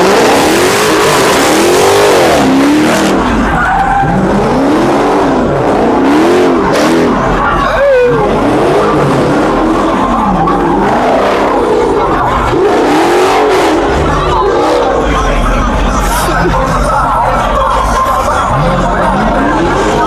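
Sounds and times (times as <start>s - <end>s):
car engine revving: 0.0s - 20.0s
tires skidding on pavement: 0.0s - 20.0s.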